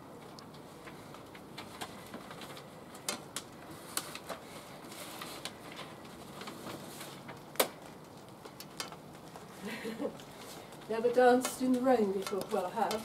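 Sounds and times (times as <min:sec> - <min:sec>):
low steady background noise: 0:00.0 - 0:13.0
paper being handled: 0:00.1 - 0:13.0.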